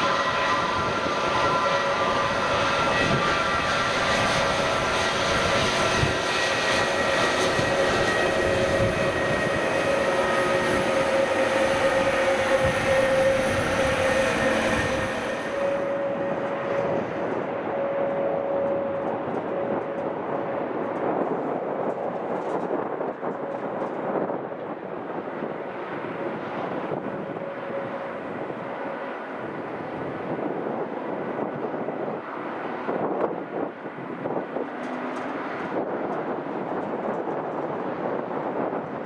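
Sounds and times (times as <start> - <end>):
high engine whine: 0.0 - 39.0
jet engines roaring: 0.0 - 39.0.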